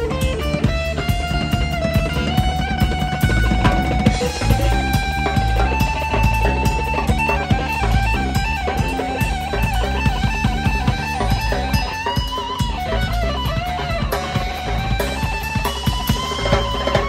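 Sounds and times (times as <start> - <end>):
electric guitar lead bending notes: 0.0 - 17.0
rock band playing: 0.0 - 17.0.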